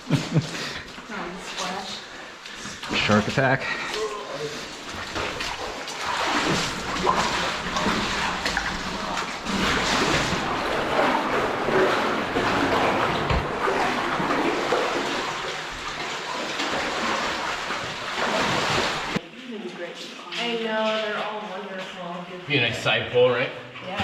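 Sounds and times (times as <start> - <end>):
cave stream water splashing: 0.0 - 21.4.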